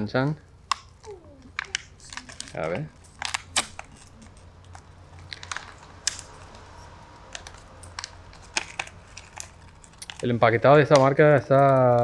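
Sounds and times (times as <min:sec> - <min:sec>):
paper packet crinkling: 0:01.0 - 0:12.0.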